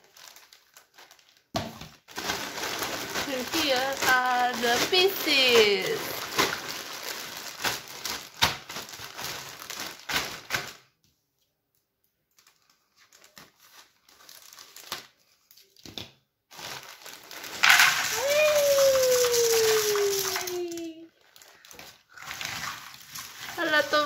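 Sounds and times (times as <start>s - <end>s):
plastic bag crinkling: 0.0s - 10.8s, 12.3s - 15.8s, 16.5s - 24.0s.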